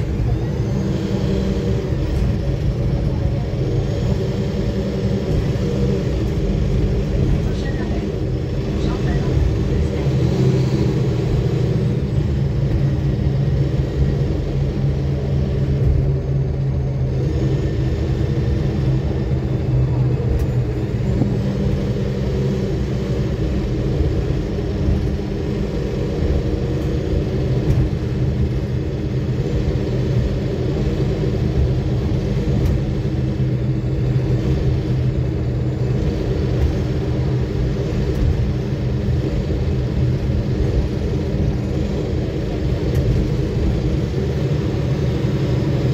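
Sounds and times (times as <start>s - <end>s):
bus diesel engine drone: 0.0s - 45.9s
road noise: 0.0s - 45.9s.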